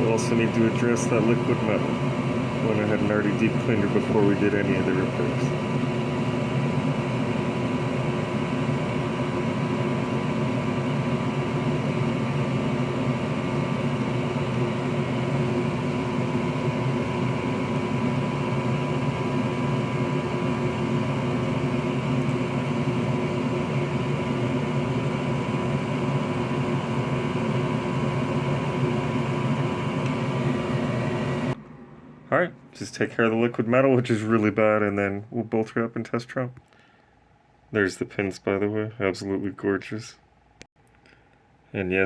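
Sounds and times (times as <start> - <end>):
electric fan and motor hum: 0.0 - 42.0.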